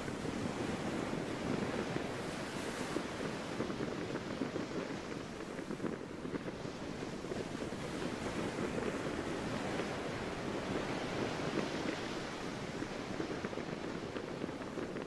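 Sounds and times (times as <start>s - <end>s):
sea surf washing: 0.0s - 15.0s
wind: 0.0s - 15.0s.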